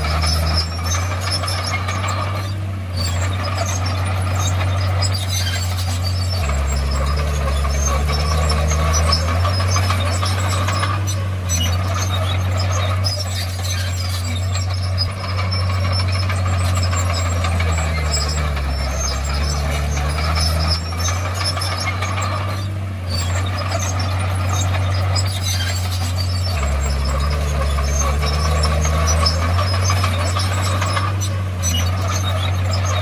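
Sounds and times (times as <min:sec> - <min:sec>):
bulldozer diesel engine droning: 0:00.0 - 0:33.0
steel tracks squealing and clinking: 0:00.0 - 0:33.0.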